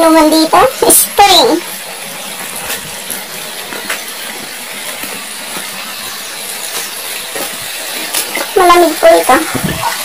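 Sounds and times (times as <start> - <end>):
stream water trickling over rocks: 0.6 - 10.0.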